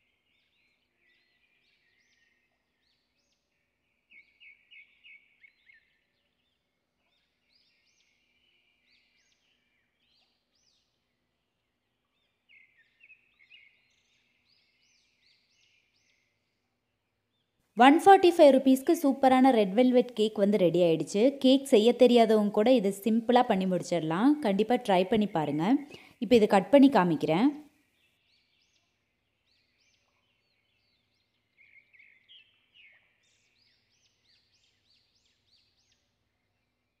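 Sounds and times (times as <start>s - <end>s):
faint birds chirping: 0.0s - 37.0s.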